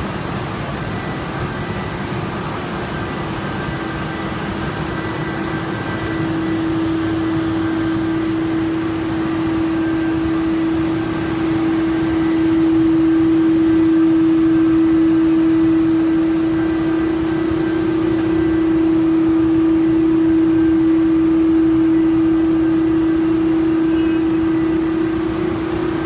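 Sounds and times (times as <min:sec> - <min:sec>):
machine hum with steady tone: 0:00.0 - 0:26.0.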